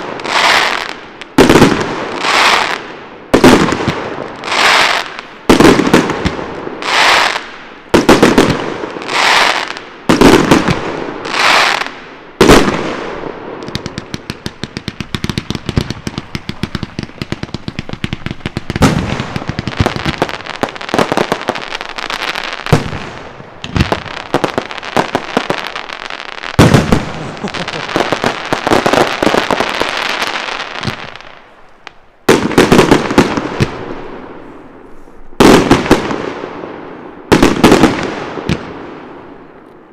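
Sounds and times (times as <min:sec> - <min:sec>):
firework crackling: 0:00.0 - 0:36.5
firework bangs: 0:00.0 - 0:39.6.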